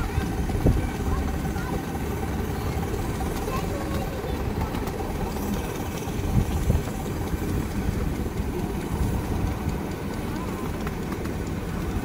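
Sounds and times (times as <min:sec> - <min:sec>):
wheels rumbling on rails: 0:00.0 - 0:12.0.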